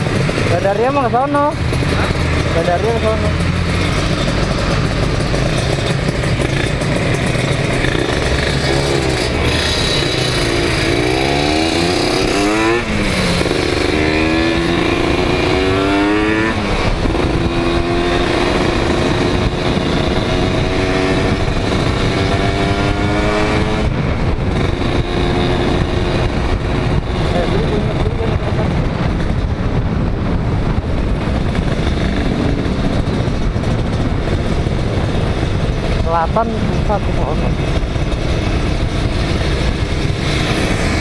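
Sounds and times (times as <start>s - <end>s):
motorcycle accelerating: 0.0s - 41.0s
wind noise on microphone: 0.0s - 41.0s.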